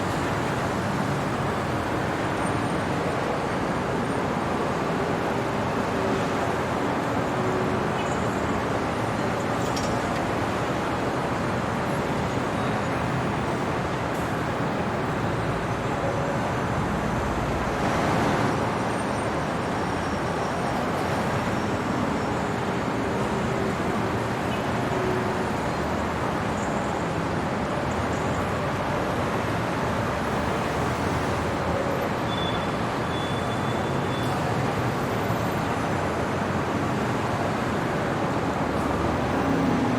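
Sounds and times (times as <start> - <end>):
road traffic hum: 0.0 - 39.9.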